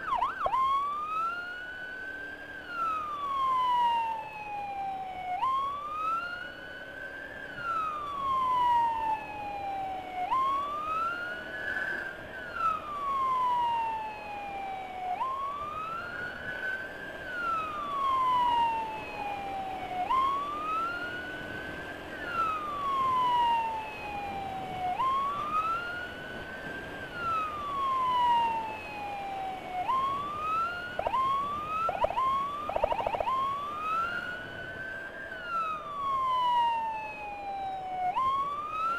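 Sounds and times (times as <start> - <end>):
emergency siren wailing: 0.0 - 38.9.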